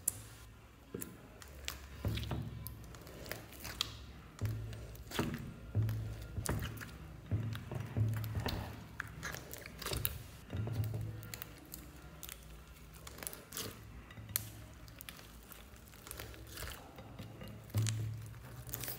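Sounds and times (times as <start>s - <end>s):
background music: 0.0s - 18.9s
sticky crackles and pops: 0.0s - 18.9s.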